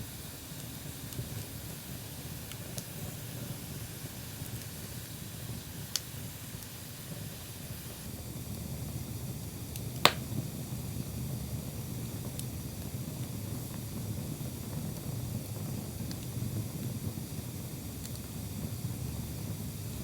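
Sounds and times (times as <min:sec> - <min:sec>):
campfire rumble: 0:00.0 - 0:20.0
faint fire crackles: 0:00.0 - 0:20.0.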